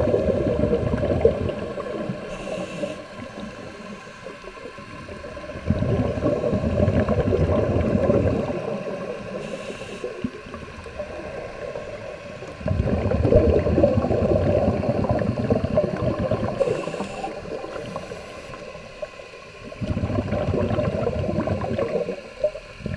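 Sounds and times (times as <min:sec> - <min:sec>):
scuba exhaust bubbles gurgling underwater: 0:00.0 - 0:22.9.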